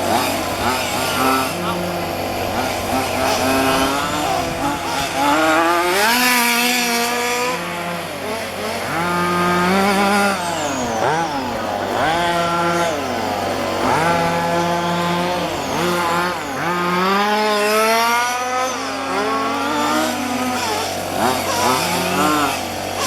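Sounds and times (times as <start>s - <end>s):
small two-stroke engines revving: 0.0s - 23.0s.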